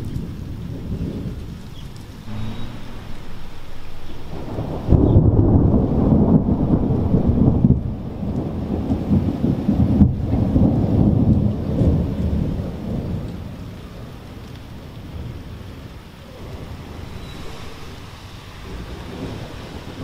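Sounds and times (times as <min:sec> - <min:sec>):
rain falling: 0:00.0 - 0:20.0
rolling thunder: 0:00.0 - 0:20.0.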